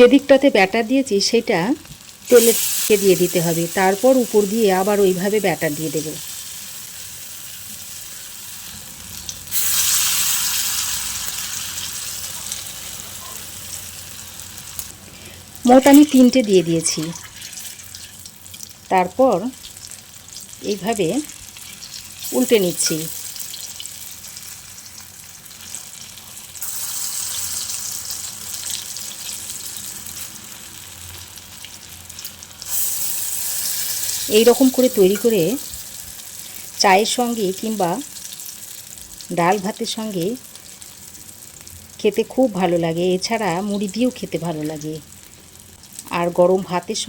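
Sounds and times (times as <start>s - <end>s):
battered food frying in oil: 1.1s - 47.0s.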